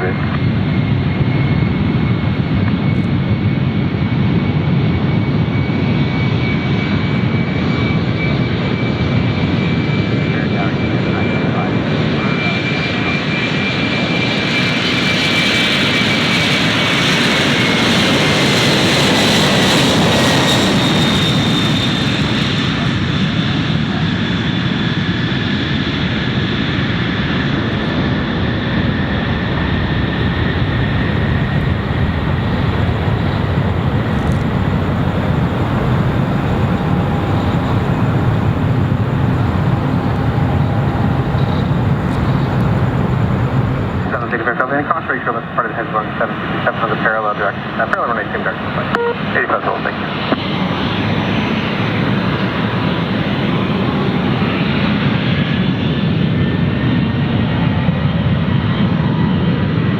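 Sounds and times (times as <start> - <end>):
jet airliner engines roaring: 0.0 - 59.9.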